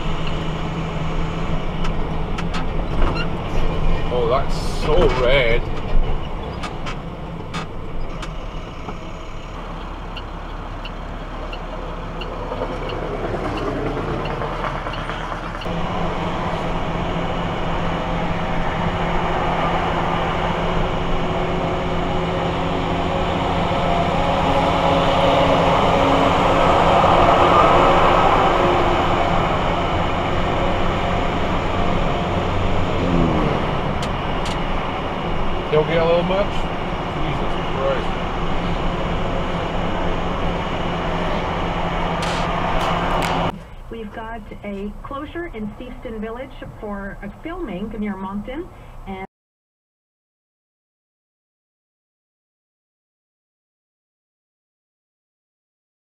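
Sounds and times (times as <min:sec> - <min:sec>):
tyres rushing on road: 0:00.0 - 0:49.1
car engine and road noise: 0:00.0 - 0:49.3.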